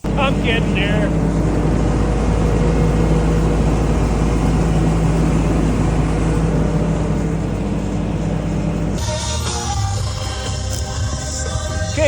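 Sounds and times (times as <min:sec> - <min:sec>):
engine drone: 0:00.0 - 0:12.0
road noise: 0:00.0 - 0:12.0.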